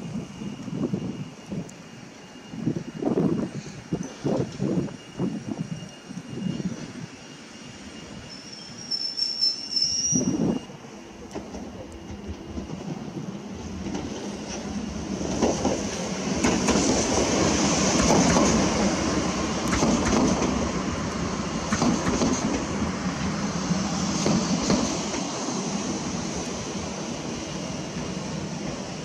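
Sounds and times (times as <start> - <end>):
train passing close by: 0.0 - 29.0.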